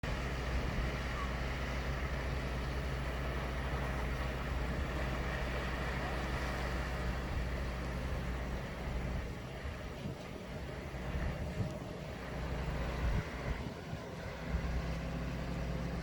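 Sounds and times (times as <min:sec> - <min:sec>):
constant low rumble: 0:00.0 - 0:16.0
waves washing: 0:00.0 - 0:16.0.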